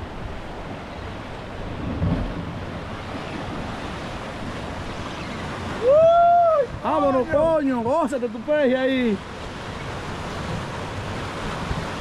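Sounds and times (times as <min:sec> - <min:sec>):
wind on microphone: 0:00.0 - 0:08.1, 0:09.2 - 0:12.0
surf against rocky shore: 0:00.0 - 0:12.0.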